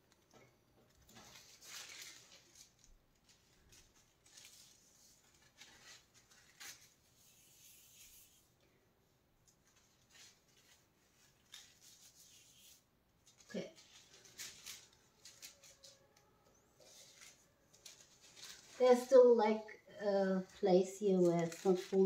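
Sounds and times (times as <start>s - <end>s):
metal leaf crinkling and rustling: 0.1s - 8.2s, 9.4s - 22.0s.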